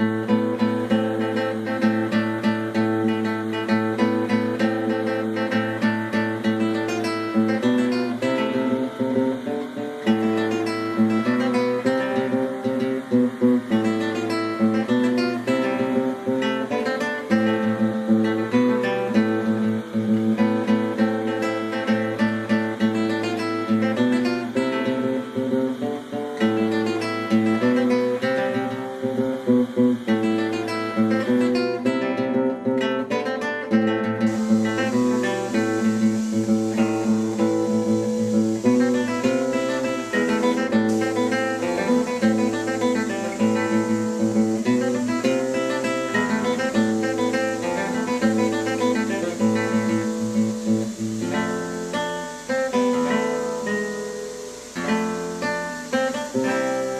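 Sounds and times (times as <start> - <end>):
flamenco acoustic guitar: 0.0 - 56.9.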